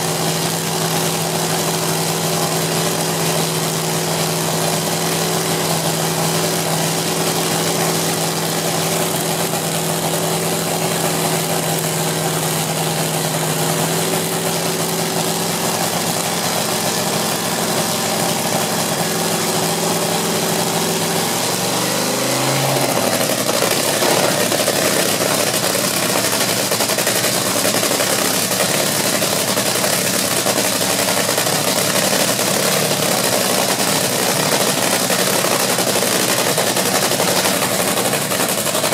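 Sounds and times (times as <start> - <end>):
dragster engine idling loudly: 0.0 - 38.9.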